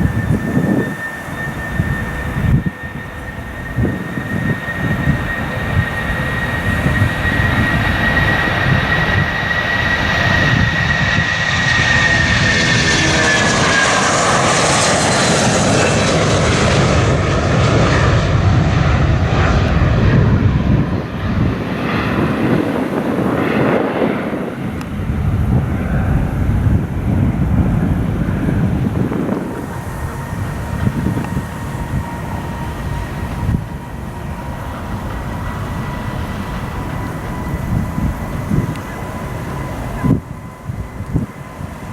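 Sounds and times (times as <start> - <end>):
jet engine roar: 0.0 - 41.9
jet fan whine: 0.0 - 41.9.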